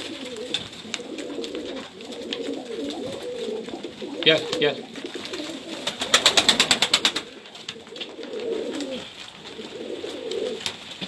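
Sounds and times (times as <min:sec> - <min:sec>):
pigeon wing claps: 0:00.0 - 0:10.8
pigeons cooing: 0:00.0 - 0:11.0.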